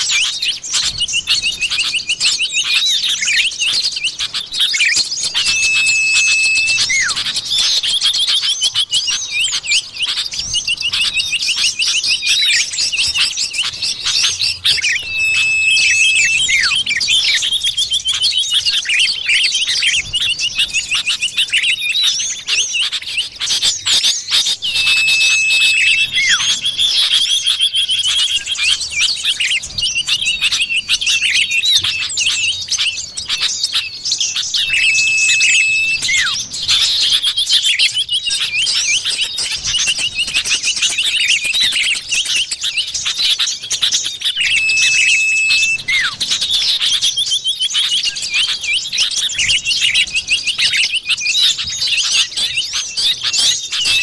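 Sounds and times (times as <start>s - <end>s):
bird chattering chirps and trills: 0.0s - 54.0s
long steady bird whistle: 0.0s - 54.0s.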